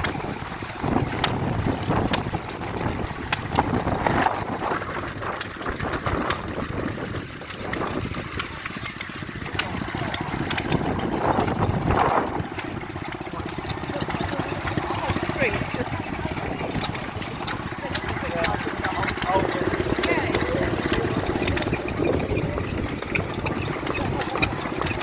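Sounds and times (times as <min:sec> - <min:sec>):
stationary engines chugging: 0:00.0 - 0:25.0.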